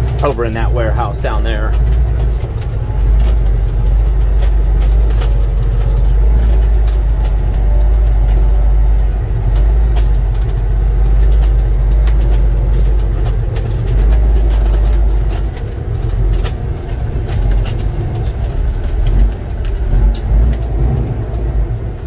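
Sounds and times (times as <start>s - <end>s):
light clicks and rattles: 0.0s - 21.6s
truck diesel engine droning: 0.0s - 22.0s.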